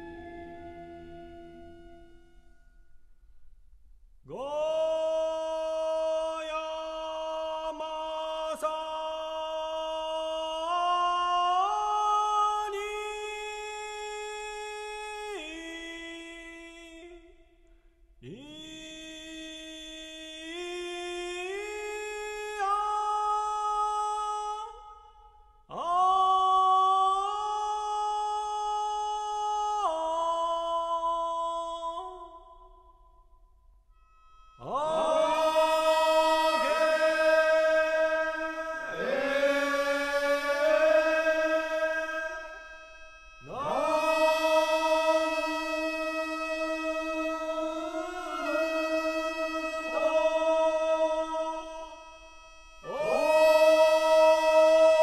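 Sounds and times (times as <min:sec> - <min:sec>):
chant with held tones: 0:00.0 - 0:03.0, 0:04.3 - 0:17.5, 0:18.2 - 0:55.0.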